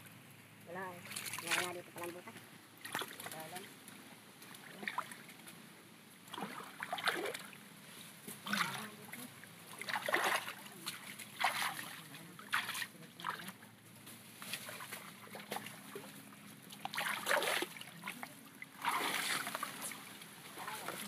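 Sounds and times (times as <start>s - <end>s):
water splashing: 0.7s - 5.6s, 6.2s - 7.6s, 8.3s - 13.8s, 14.5s - 21.0s.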